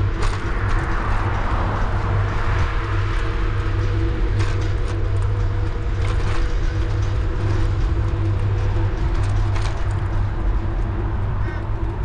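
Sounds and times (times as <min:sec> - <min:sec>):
bicycle riding noise: 0:00.0 - 0:12.0.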